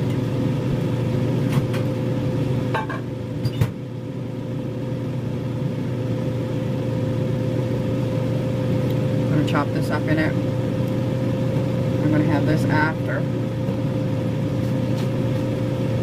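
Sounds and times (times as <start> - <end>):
kitchen appliance humming: 0.0 - 16.0.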